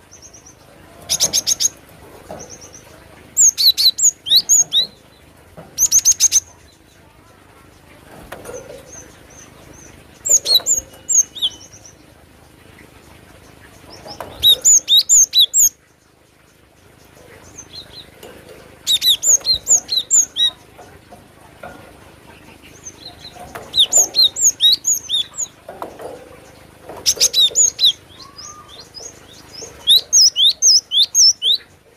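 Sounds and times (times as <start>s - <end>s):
faint bird calls: 5.8s - 31.9s.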